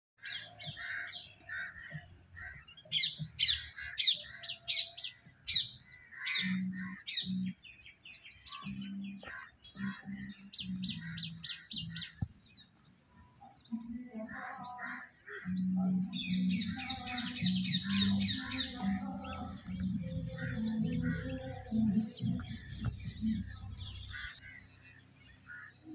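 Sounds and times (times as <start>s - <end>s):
small birds chirping: 0.2s - 25.9s.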